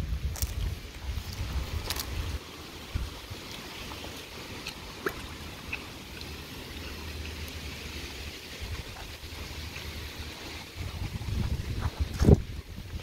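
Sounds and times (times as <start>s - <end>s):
water trickling: 0.4s - 13.0s.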